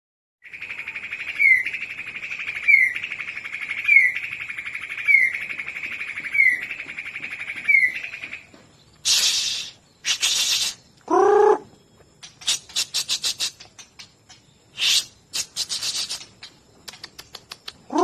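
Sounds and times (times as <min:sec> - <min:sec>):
songbird singing buzzy trill: 0:00.4 - 0:18.0.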